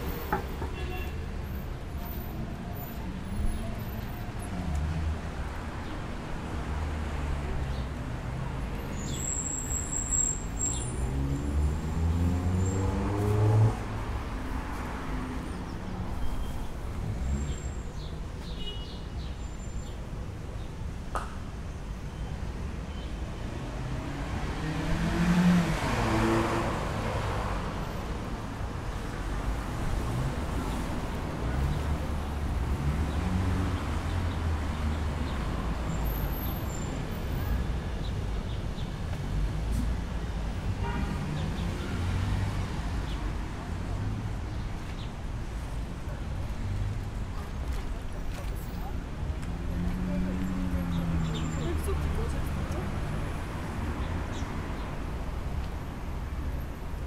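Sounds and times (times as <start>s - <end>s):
rumble of car traffic: 0.0s - 57.0s.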